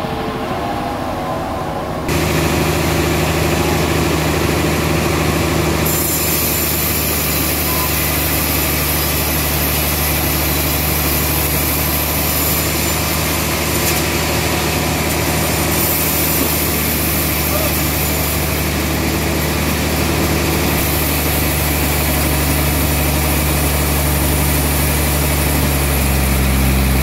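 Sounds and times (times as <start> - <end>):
band saw running: 2.1 - 27.0.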